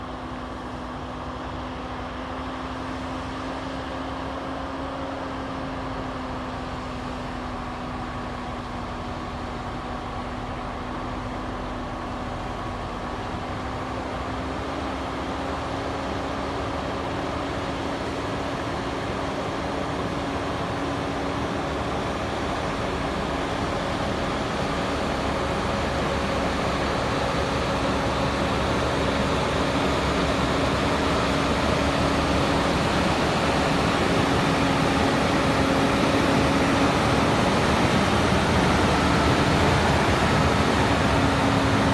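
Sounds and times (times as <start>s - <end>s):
truck diesel engine under load: 3.2s - 41.9s.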